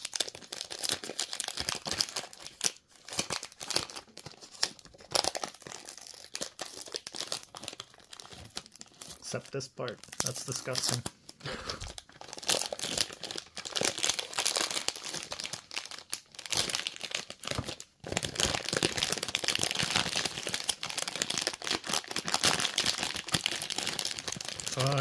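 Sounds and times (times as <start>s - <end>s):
plastic wrap crackling: 0.0s - 25.0s.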